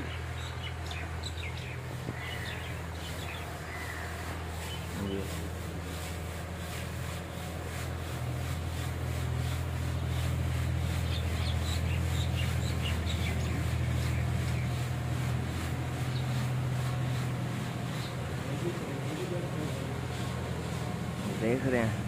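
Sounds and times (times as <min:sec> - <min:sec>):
birds chirping: 0:00.0 - 0:22.0
steady low hum: 0:00.0 - 0:22.0
seeds pouring from a sieve: 0:03.5 - 0:22.0.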